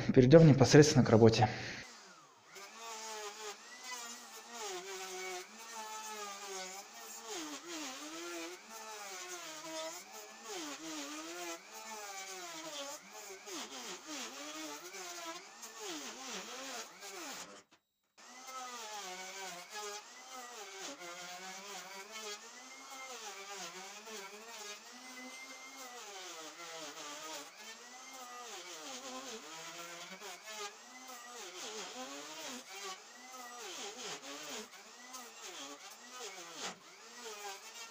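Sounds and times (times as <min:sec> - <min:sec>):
router cutting wood: 0:00.0 - 0:37.9.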